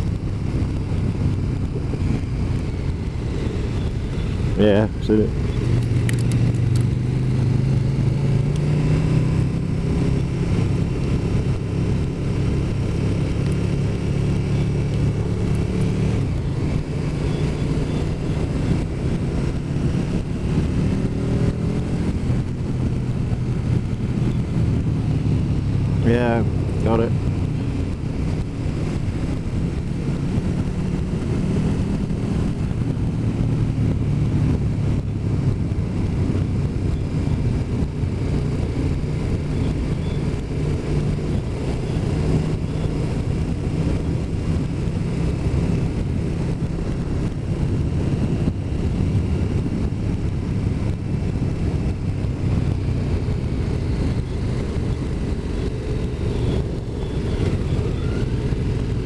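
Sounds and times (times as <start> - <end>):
motorcycle engine drone: 0.0 - 59.0
wind rush: 0.0 - 59.0.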